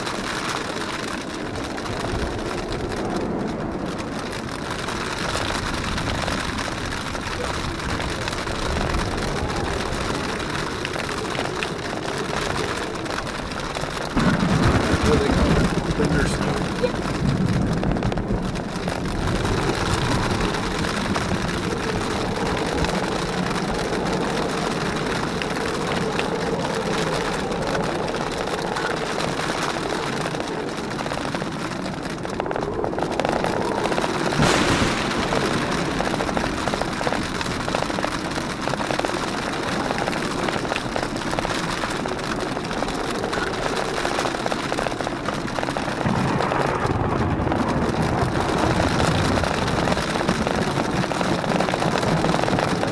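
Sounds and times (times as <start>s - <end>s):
rain: 0.0s - 52.9s
wind: 0.0s - 52.9s.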